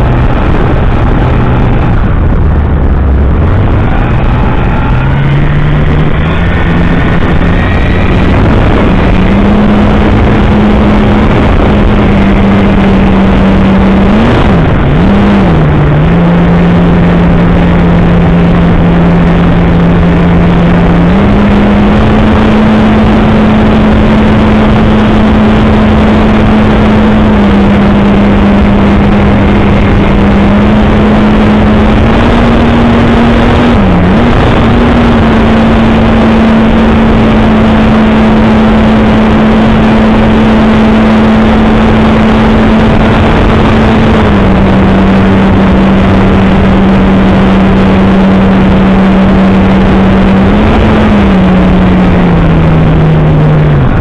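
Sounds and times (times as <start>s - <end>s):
electric propeller drone: 0.0s - 54.0s
wind rush: 0.0s - 54.0s.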